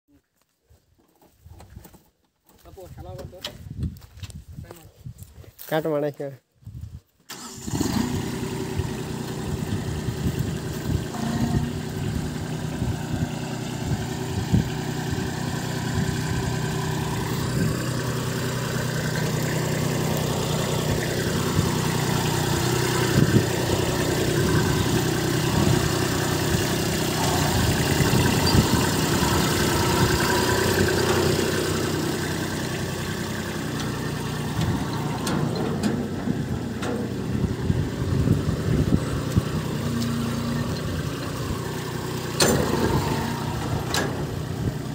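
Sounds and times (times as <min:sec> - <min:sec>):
tractor diesel engine running: 0:07.3 - 0:44.9.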